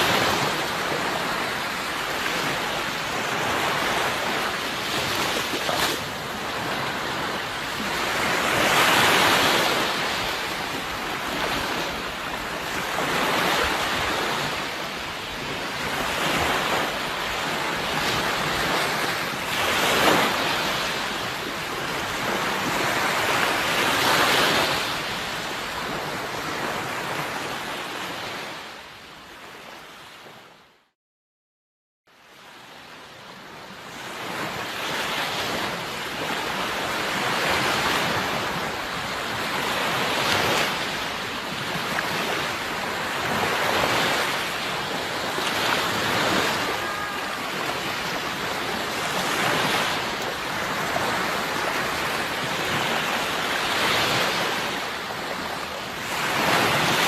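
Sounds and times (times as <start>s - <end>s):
sea surf washing in: 0.0s - 28.7s, 34.2s - 57.0s.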